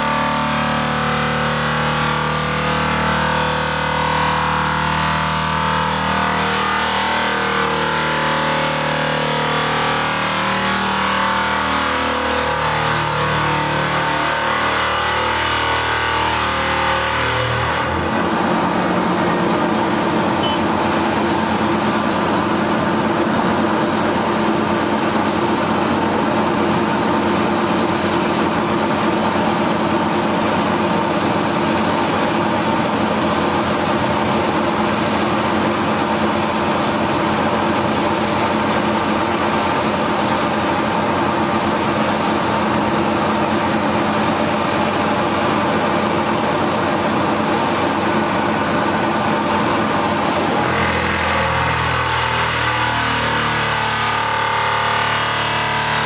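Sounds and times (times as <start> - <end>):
vibratory pile driver drone: 0.0 - 56.0.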